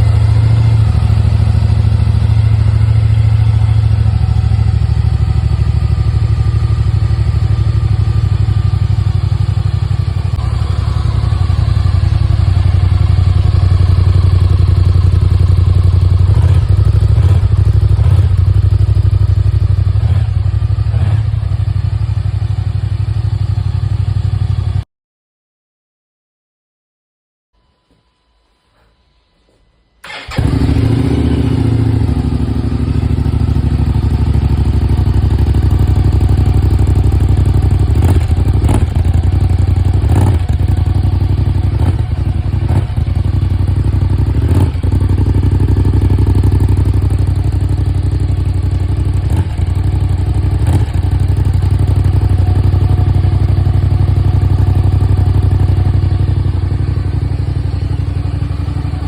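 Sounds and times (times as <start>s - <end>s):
scooter engine idling: 0.0s - 24.8s, 30.0s - 59.0s.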